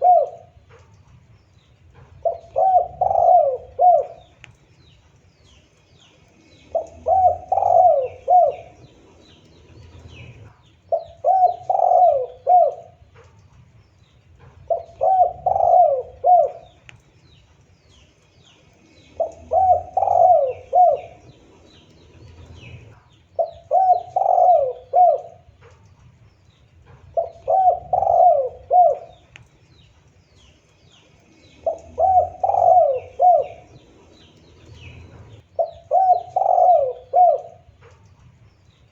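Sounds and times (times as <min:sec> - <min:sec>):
dove cooing: 0:00.0 - 0:01.0, 0:02.0 - 0:04.6, 0:06.4 - 0:13.5, 0:14.4 - 0:17.0, 0:18.8 - 0:25.9, 0:26.5 - 0:29.5, 0:30.3 - 0:38.2
small birds chirping: 0:00.0 - 0:38.9.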